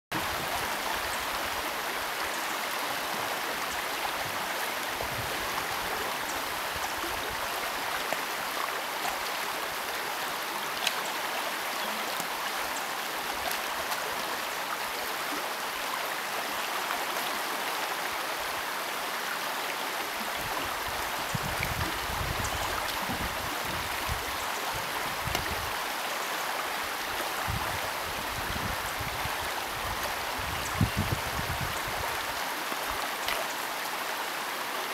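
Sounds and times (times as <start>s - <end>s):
shallow river flowing: 0.1s - 34.9s.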